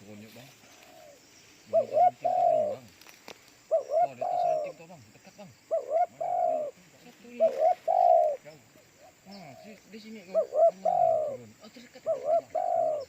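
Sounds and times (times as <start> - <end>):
dove cooing: 0.0 - 3.0, 3.6 - 13.0.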